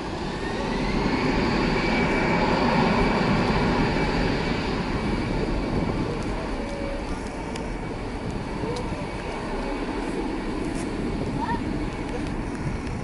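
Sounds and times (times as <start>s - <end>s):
jet engines at high power: 0.0s - 13.0s.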